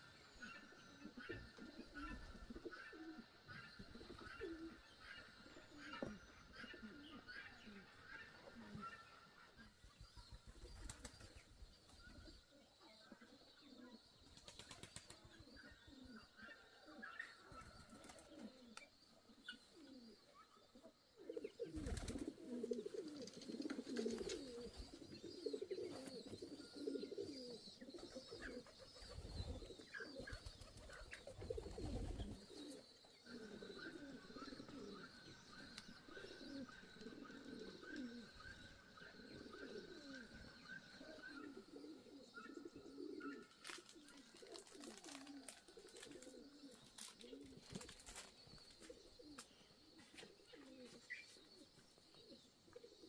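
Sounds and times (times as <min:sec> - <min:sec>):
pigeons cooing: 0:00.0 - 0:53.0
small birds chirping: 0:00.0 - 0:53.0.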